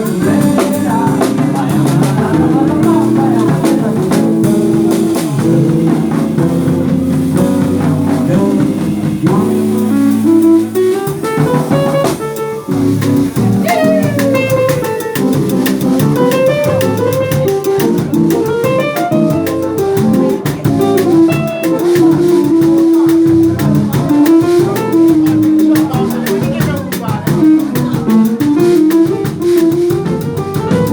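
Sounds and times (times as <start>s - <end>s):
instrumental band music: 0.0s - 30.9s.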